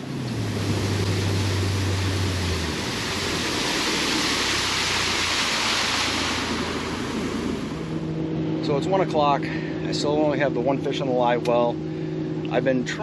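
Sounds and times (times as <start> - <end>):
boat engine hum: 0.0 - 13.0
rush of wind and water: 0.0 - 13.0.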